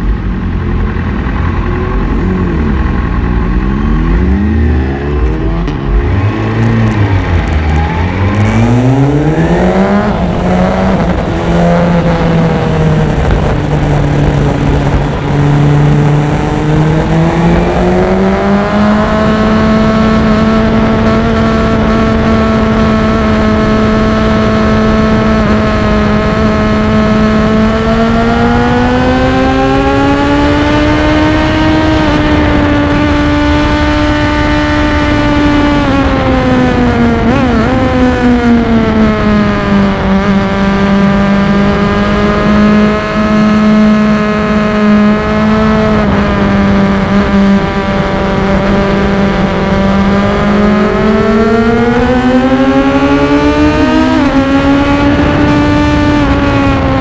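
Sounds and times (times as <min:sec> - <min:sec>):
motorcycle engine upshifting: 0:00.0 - 0:57.0.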